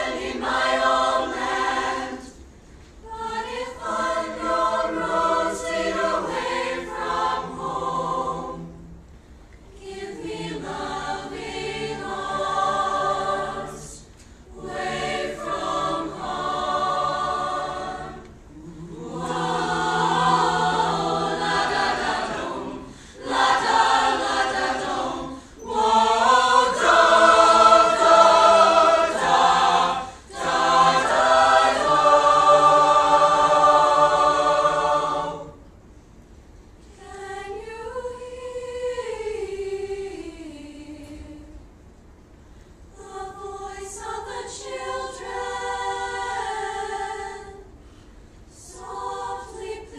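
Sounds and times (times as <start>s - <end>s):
mixed choir singing: 0.0s - 9.0s, 9.7s - 35.8s, 36.9s - 41.6s, 42.9s - 47.8s, 48.5s - 49.9s.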